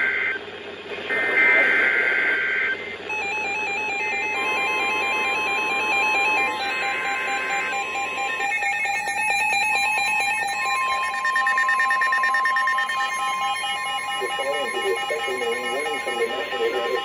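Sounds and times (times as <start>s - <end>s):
pulsing alarm beeps: 0.0s - 17.0s
steady high warning tone: 0.0s - 17.0s.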